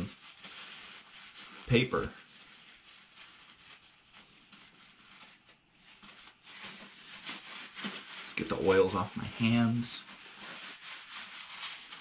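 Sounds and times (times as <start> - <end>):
paper towel rustling: 0.0 - 12.0.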